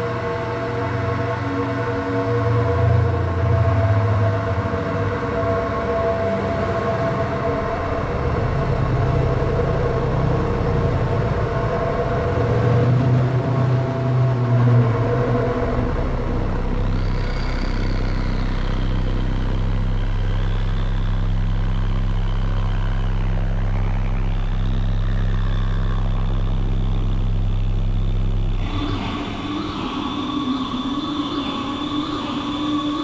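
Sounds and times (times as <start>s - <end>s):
low synthesizer drone: 0.0s - 33.0s.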